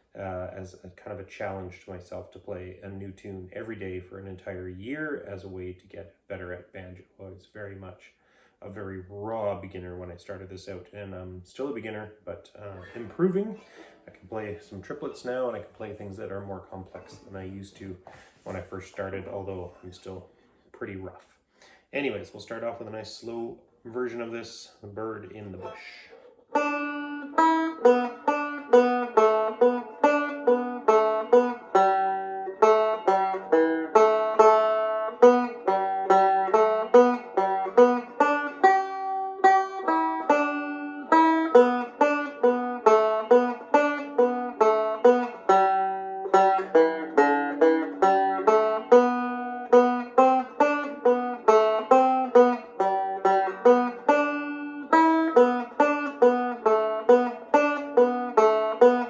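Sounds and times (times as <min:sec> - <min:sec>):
solo tenor banjo picking: 0:00.0 - 0:07.8, 0:08.6 - 0:21.2, 0:22.0 - 0:59.0.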